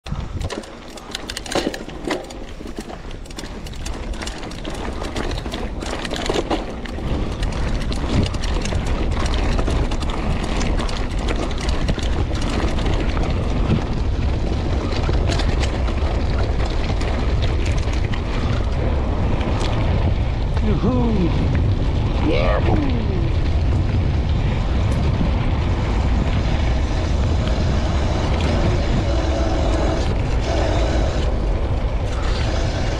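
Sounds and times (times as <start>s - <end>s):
bike clicks and rattles: 0.0s - 32.9s
bike tyres on dirt track: 0.0s - 32.9s
wind buffeting microphone: 0.0s - 32.9s.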